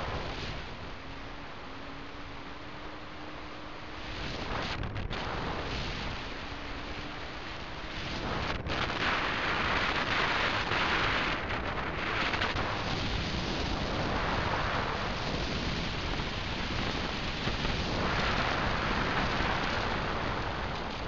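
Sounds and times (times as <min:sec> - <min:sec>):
car engine wind and road noise: 0:00.0 - 0:21.0.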